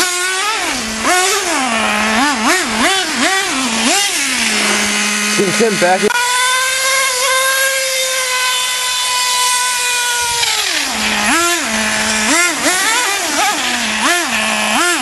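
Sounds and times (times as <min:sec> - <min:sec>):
small engine whining and revving: 0:00.0 - 0:15.0.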